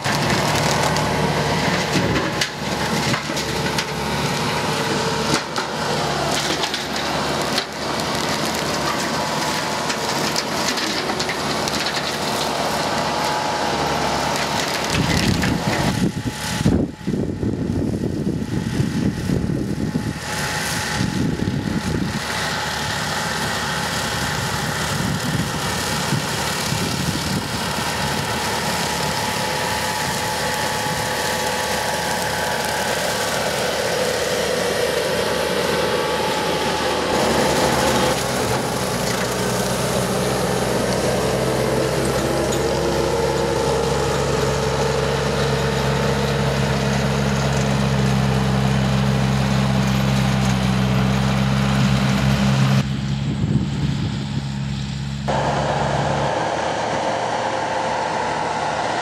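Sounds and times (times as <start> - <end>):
brush cutter shredding grass: 0.0 - 59.0
diesel engine under load: 0.0 - 59.0.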